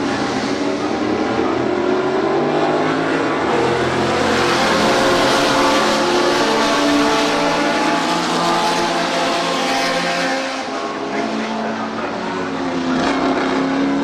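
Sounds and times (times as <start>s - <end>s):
racing car engines accelerating: 0.0s - 14.0s.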